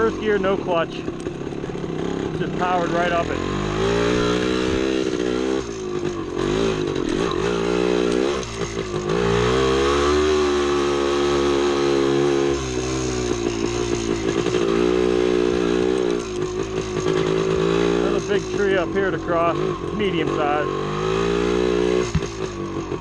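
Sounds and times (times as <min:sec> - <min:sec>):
motorcycle two-stroke engine revving: 0:00.0 - 0:23.0.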